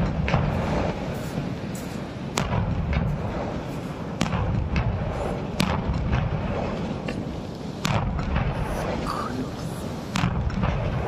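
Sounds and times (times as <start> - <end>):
fireworks bangs: 0.0 - 11.0
low rumbling booms: 0.0 - 11.0.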